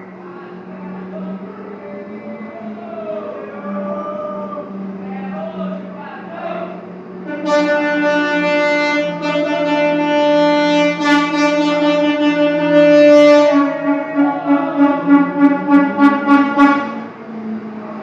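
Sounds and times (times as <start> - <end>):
truck horn blast: 0.0 - 17.9
low steady hum: 0.0 - 18.0.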